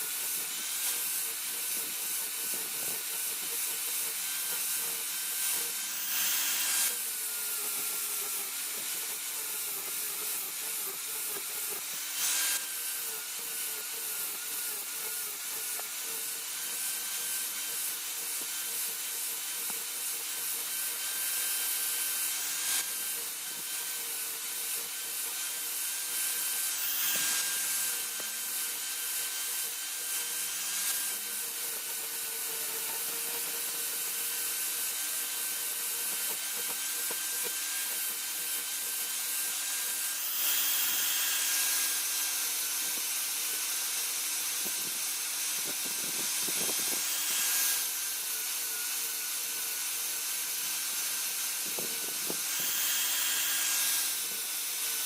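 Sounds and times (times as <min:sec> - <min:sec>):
electric grinder grinding steel: 0:00.0 - 0:55.0.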